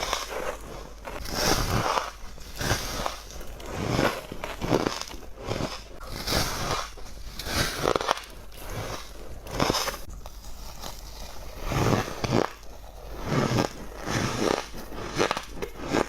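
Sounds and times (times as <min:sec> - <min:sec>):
ice being chewed: 0:00.0 - 0:16.0.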